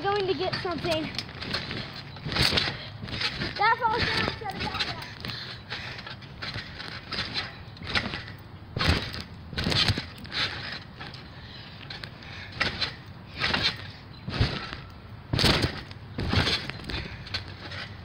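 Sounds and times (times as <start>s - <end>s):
trampoline mat and springs thumping: 0.0s - 18.0s.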